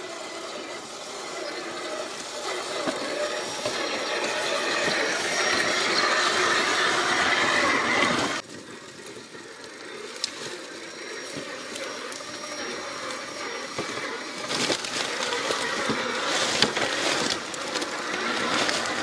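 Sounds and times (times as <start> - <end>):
electric motors whining: 0.0 - 19.0
tyres crunching on rocks: 0.5 - 19.0.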